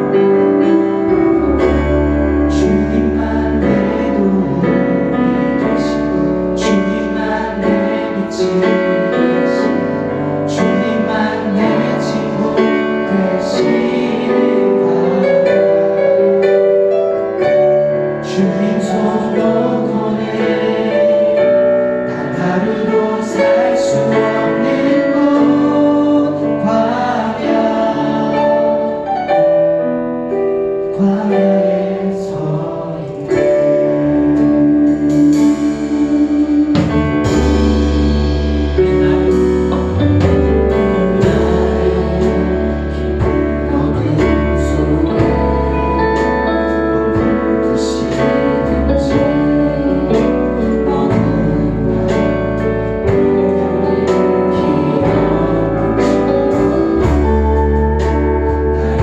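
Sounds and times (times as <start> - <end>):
group singing worship song: 0.0 - 16.6, 18.2 - 29.4, 30.9 - 59.0
keyboard accompaniment: 0.0 - 59.0.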